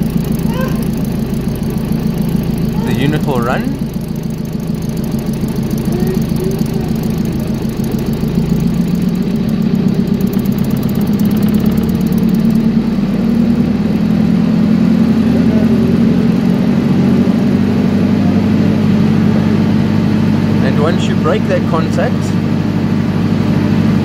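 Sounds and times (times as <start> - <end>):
generator engine humming: 0.0 - 24.0.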